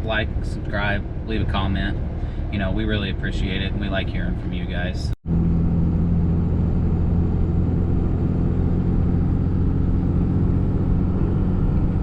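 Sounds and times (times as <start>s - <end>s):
road noise: 0.0s - 12.0s
vehicle engine drone: 0.0s - 12.0s.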